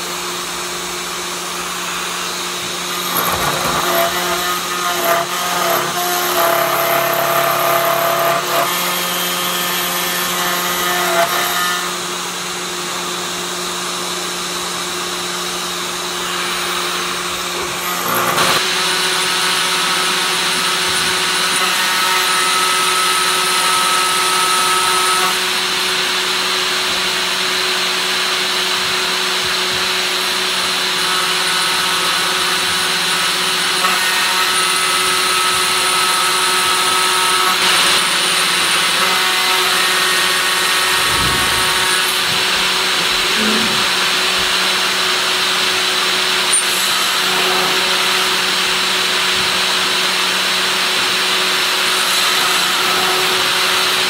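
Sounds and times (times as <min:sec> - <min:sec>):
router spindle machining whine: 0:00.0 - 0:54.0.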